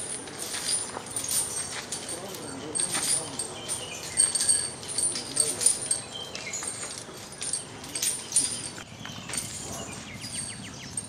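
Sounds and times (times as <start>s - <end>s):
iron chains clinking: 0.0s - 11.0s.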